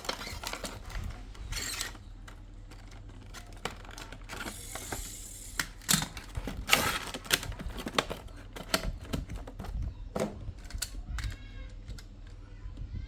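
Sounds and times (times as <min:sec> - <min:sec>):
packaging rustling: 0:00.0 - 0:12.4
plastic toy parts clicking: 0:00.0 - 0:12.5.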